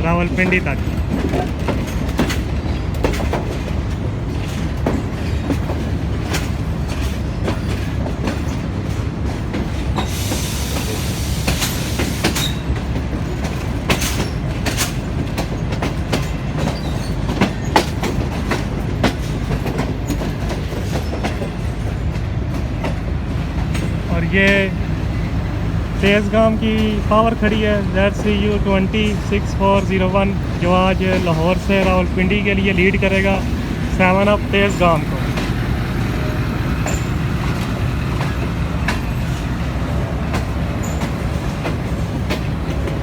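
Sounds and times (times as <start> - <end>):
train rumbling on rails: 0.0 - 43.0
wheels clicking over rail joints: 0.1 - 43.0.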